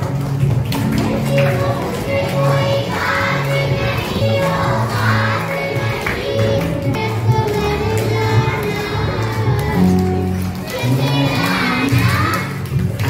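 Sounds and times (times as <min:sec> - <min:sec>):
group of voices singing: 0:00.8 - 0:12.7.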